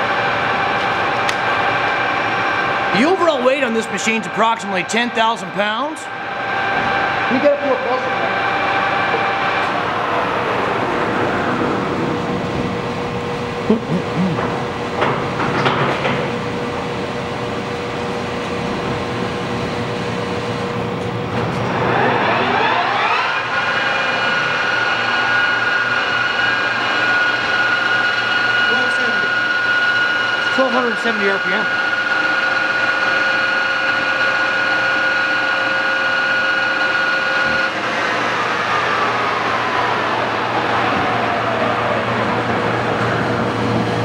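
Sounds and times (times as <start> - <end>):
lathe spindle gear whine: 0.0 - 13.7, 14.4 - 44.0
lathe motor running: 0.0 - 44.0.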